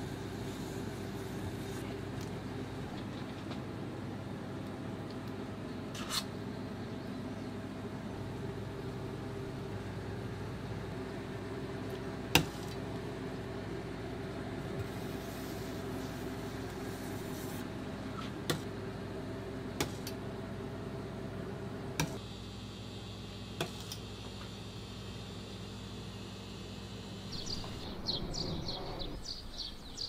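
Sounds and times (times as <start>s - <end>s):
kitchen machinery hum: 0.0s - 30.0s.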